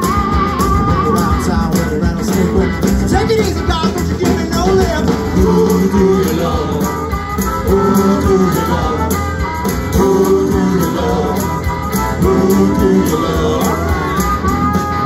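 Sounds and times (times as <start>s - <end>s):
electric guitars: 0.0s - 15.0s
steady drum beat: 0.0s - 15.0s.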